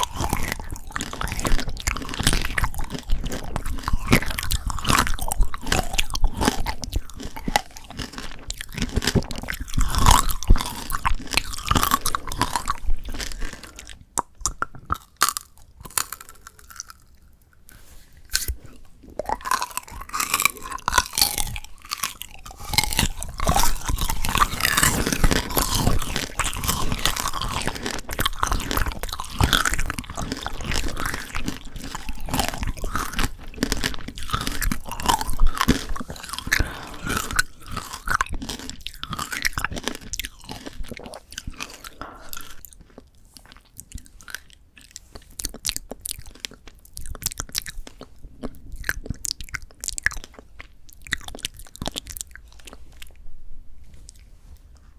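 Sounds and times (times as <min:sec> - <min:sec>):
crunching hard candy: 0:00.0 - 0:53.2.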